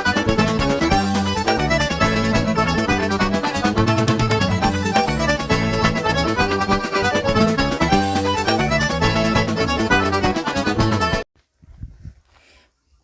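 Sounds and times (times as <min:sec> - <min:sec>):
accordion music with beat: 0:00.0 - 0:11.3.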